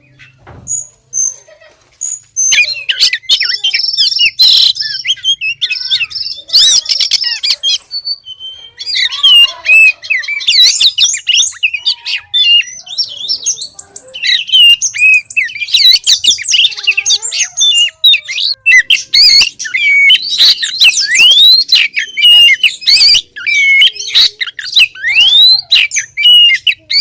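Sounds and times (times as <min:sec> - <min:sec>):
bird singing whistled notes: 0:02.0 - 0:27.0.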